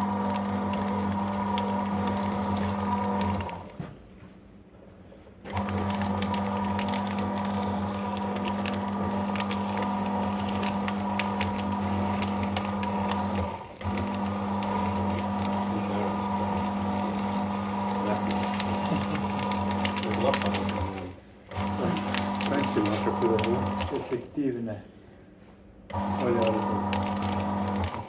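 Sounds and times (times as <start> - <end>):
paper shredder motor hum: 0.0 - 4.0, 5.4 - 24.5, 25.8 - 28.0.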